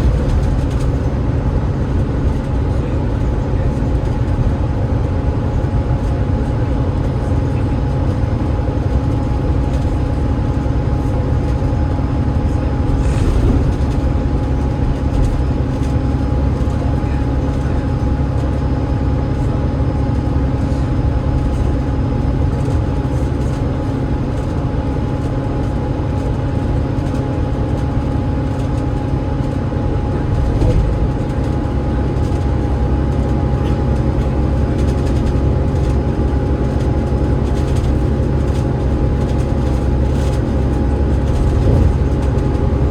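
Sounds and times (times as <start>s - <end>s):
bus engine rumble: 0.0s - 42.9s.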